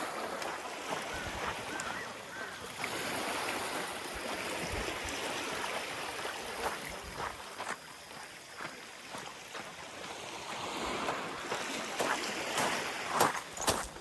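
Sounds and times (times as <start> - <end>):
small waves washing onto beach: 0.0 - 14.0.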